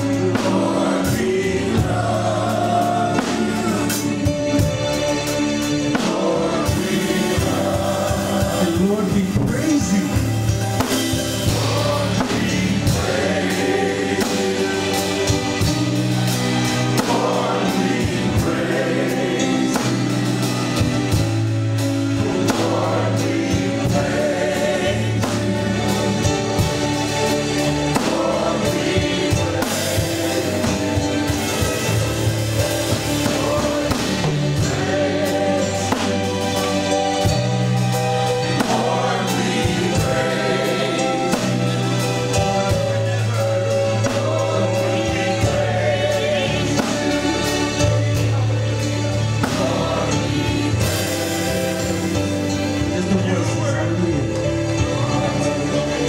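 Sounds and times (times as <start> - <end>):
bass line: 0.0 - 56.0
drums: 0.0 - 56.0
gospel choir singing: 0.0 - 56.0.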